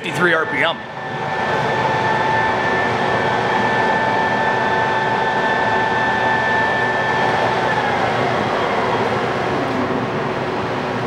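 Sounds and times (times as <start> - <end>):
lathe humming with high whine: 0.0 - 11.0.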